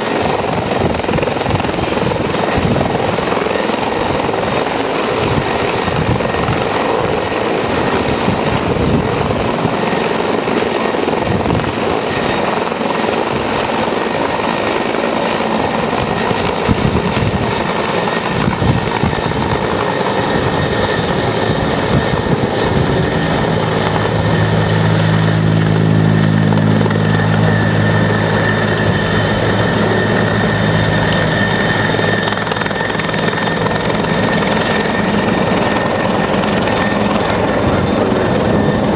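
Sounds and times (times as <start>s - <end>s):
helicopter rotor and turbine: 0.0s - 38.9s.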